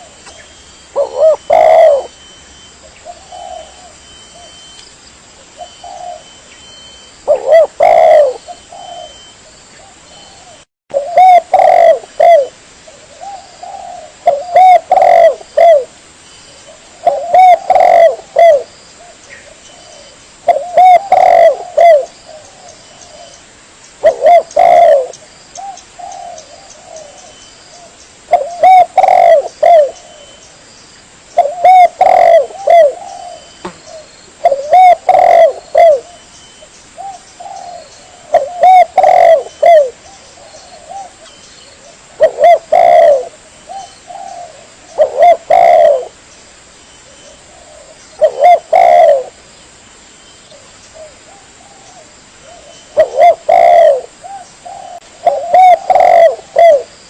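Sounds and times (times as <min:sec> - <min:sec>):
dove cooing: 0:00.0 - 0:04.7, 0:05.5 - 0:15.9, 0:16.6 - 0:23.4, 0:24.0 - 0:30.4, 0:31.4 - 0:36.3, 0:37.0 - 0:46.2, 0:47.0 - 0:49.4, 0:50.5 - 0:57.0.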